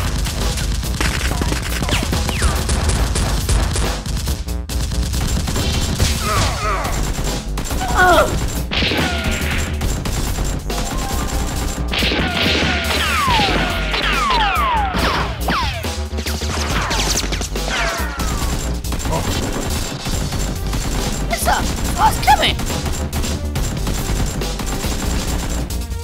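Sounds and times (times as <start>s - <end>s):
background music with low beat: 0.0s - 26.0s
rapid gunfire bursts: 0.0s - 26.0s.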